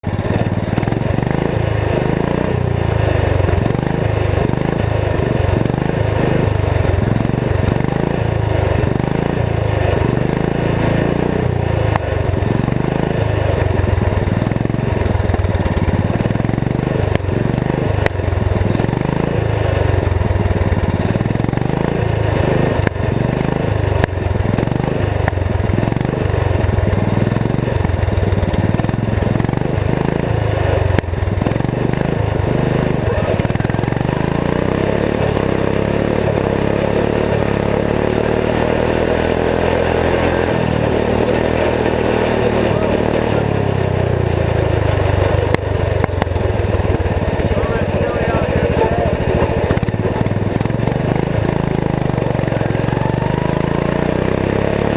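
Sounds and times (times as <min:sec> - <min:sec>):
garden tractor engine running: 0:00.0 - 0:54.9.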